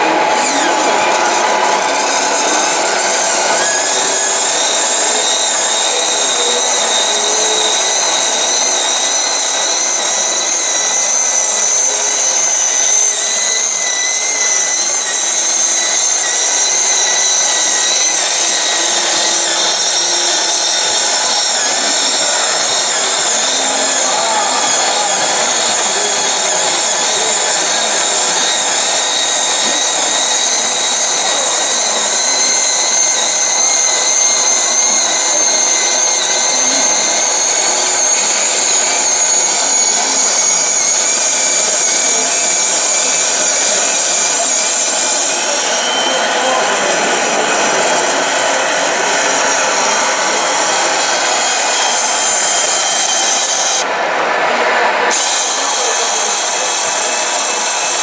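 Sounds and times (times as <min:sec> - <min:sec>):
small electric pump whining: 0:00.0 - 0:58.0.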